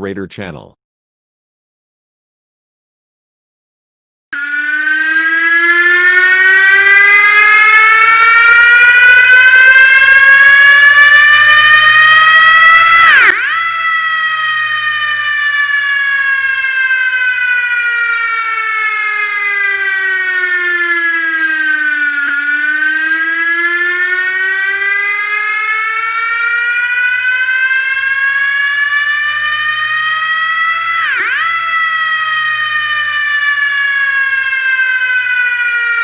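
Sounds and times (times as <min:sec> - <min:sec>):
fire truck siren wailing: 0:04.4 - 0:36.0.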